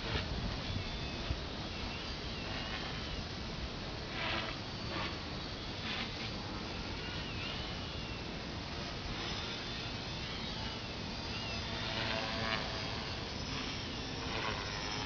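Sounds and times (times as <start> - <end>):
drone propellers buzzing: 0.0 - 15.0
wind rumble on microphone: 0.0 - 15.0.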